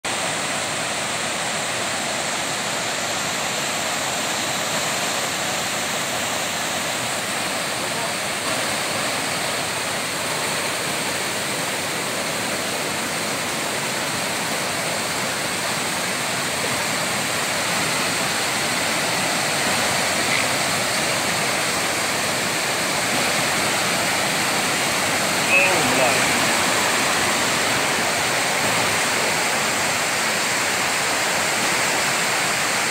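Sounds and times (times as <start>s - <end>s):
water rushing over rocks: 0.0s - 32.9s.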